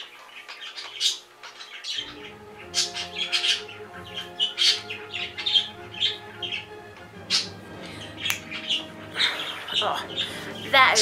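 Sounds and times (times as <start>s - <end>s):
bird chirping and squawking: 0.0s - 11.0s.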